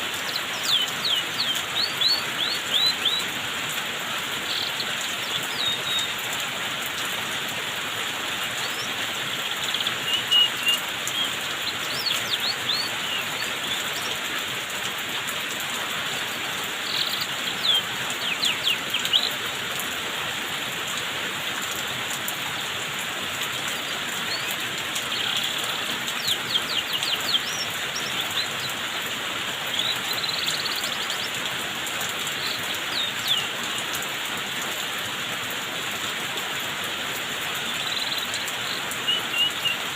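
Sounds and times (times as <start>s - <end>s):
water hissing like rain: 0.0s - 39.9s.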